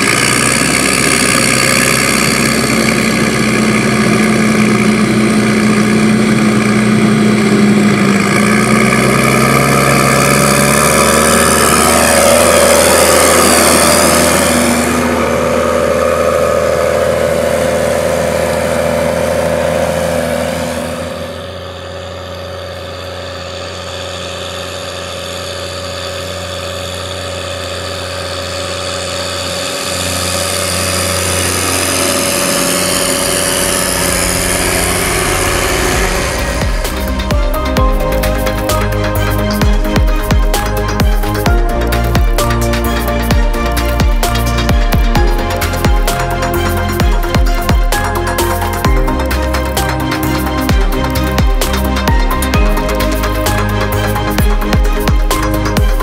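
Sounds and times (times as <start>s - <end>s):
diesel tractor engine revving: 0.0s - 56.0s.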